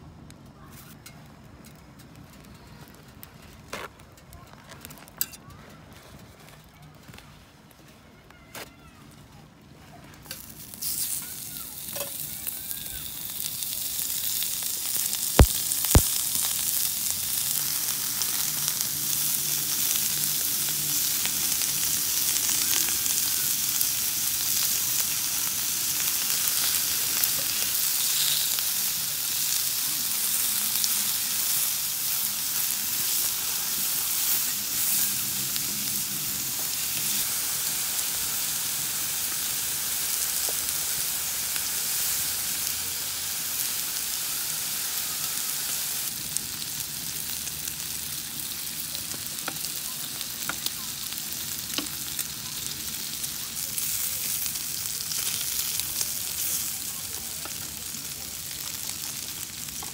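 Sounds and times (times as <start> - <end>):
pork sizzling on griddle: 10.2 - 59.9.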